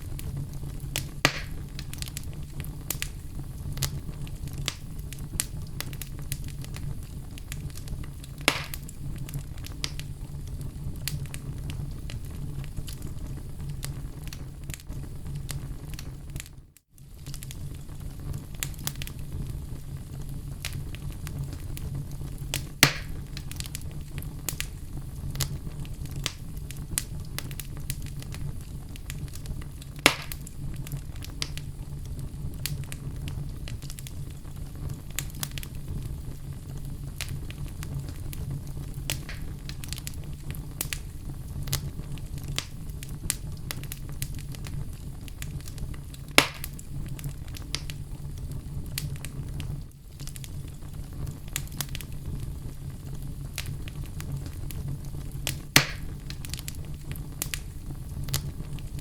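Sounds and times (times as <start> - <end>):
fire crackling and popping: 0.0 - 59.0
fire rumbling: 0.0 - 59.0.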